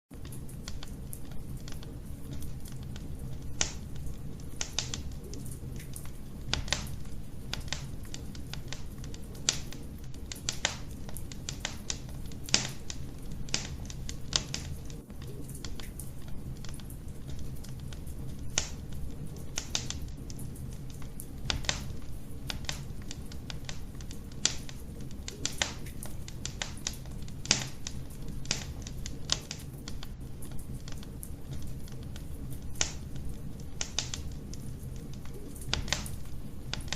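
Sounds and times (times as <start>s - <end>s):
fire pops and snaps: 0.1s - 36.9s
low rumble of flames: 0.1s - 36.9s.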